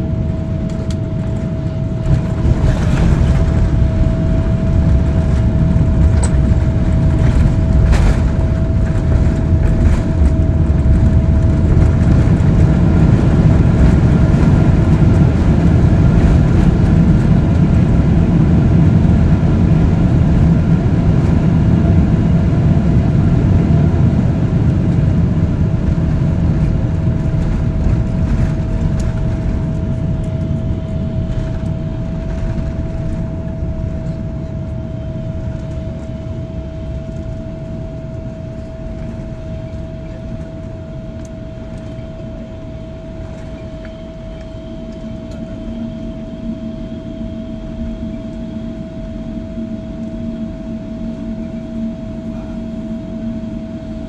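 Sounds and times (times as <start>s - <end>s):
jet engines rumbling: 0.0s - 54.0s
steady whine: 0.0s - 54.0s.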